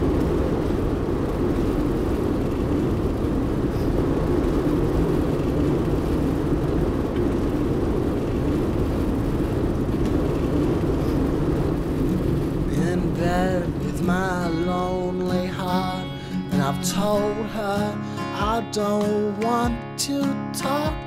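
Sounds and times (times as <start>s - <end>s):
car engine and road rumble: 0.0s - 17.8s.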